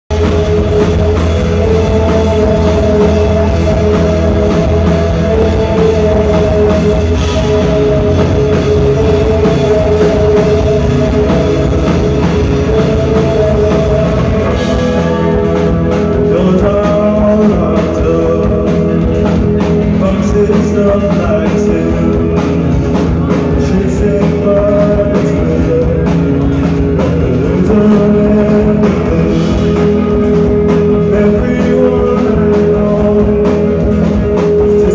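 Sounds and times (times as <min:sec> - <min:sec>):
bass guitar: 0:00.0 - 0:34.9
drum kit: 0:00.1 - 0:34.9
electric guitars: 0:00.1 - 0:34.9
person singing: 0:00.5 - 0:34.9.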